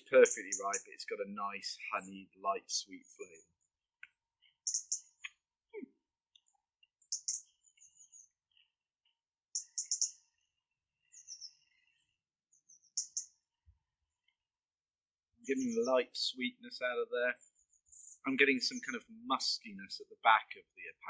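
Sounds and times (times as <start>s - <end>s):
songbirds chirping and trilling: 0.0s - 14.5s, 15.4s - 21.0s.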